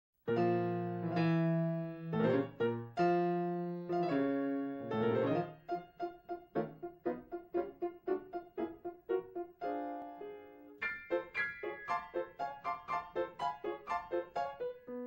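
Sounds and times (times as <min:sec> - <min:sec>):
solo piano music: 0:00.2 - 0:15.0.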